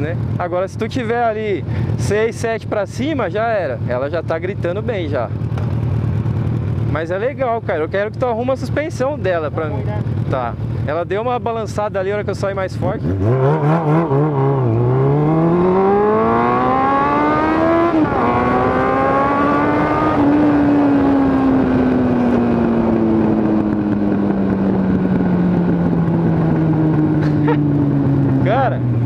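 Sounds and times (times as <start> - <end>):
motorcycle engine revving: 1.7 - 29.0.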